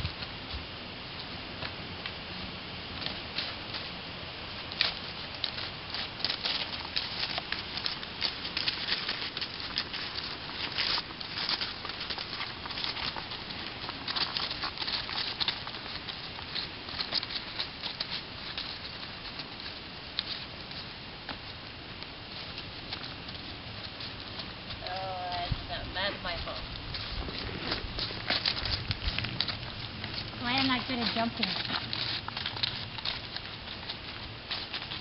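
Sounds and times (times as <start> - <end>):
hooves walking through dry leaves: 0.0 - 35.0.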